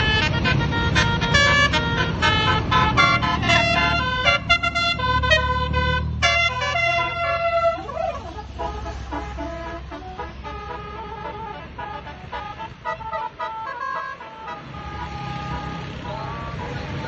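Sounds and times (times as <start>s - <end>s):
bus air horn melody: 0.0s - 17.0s
bus engine rumble: 0.0s - 17.0s.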